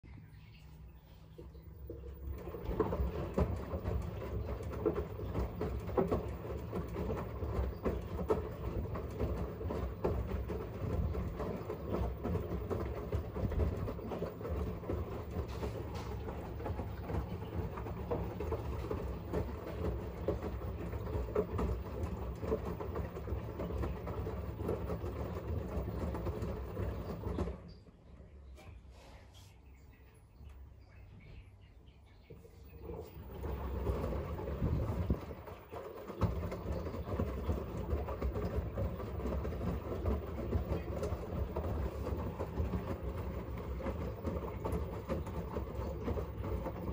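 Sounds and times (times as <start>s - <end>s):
washing machine motor rumble: 0.0s - 46.9s
laundry tumbling and water sloshing: 0.1s - 31.4s, 32.2s - 46.9s.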